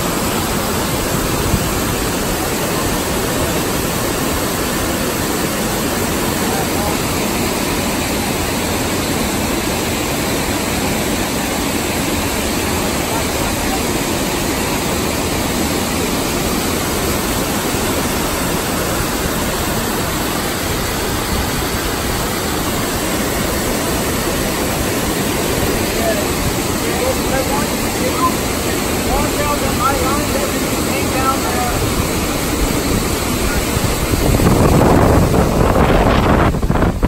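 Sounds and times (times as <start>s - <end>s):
waterfall pouring over rocks: 0.0s - 37.0s.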